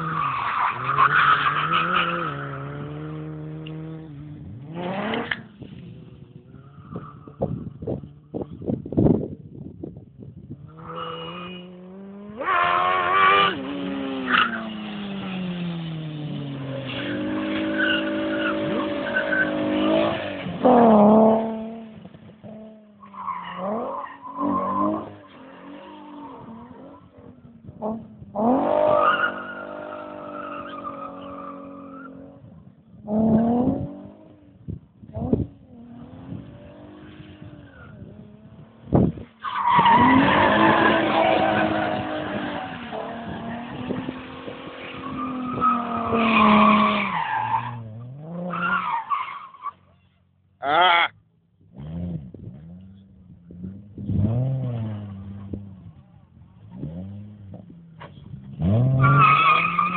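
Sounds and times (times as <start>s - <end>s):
car engine revving: 0.0s - 9.0s, 10.6s - 49.0s, 51.6s - 59.9s.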